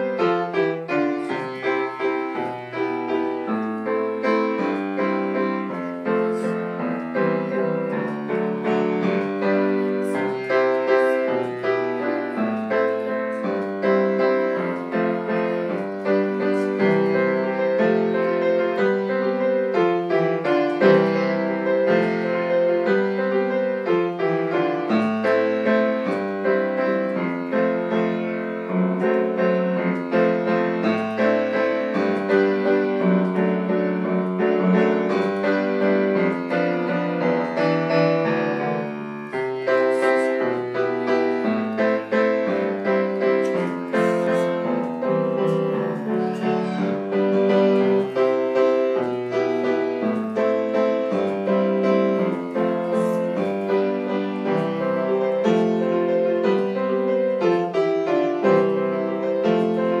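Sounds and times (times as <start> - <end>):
piano playing chords: 0.0 - 60.0.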